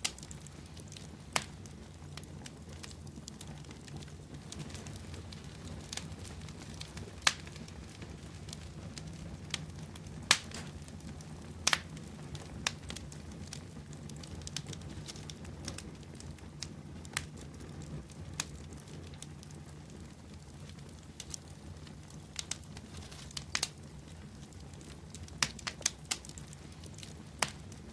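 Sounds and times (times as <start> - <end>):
burning wood crackling: 0.0 - 27.9
low rumble of flames: 0.0 - 27.9
sharp pops from fire: 0.0 - 27.9.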